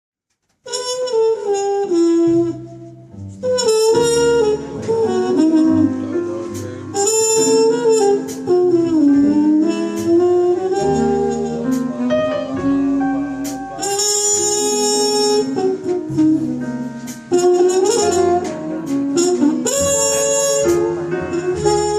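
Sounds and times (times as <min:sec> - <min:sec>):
jazz group playing: 0:00.4 - 0:21.9
horn melody: 0:00.6 - 0:21.9.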